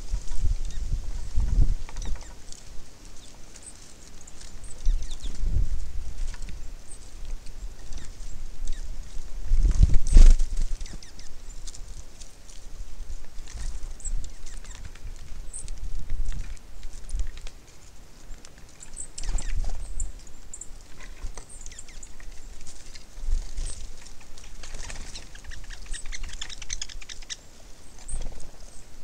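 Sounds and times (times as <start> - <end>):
wind rumbling on microphone: 0.0 - 3.4, 4.2 - 17.6, 18.9 - 27.3
birds pecking seed: 0.1 - 29.0.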